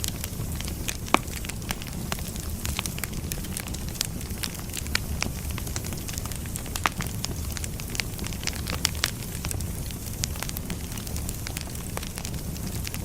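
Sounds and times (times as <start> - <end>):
firewood burning with crackles: 0.0 - 13.0.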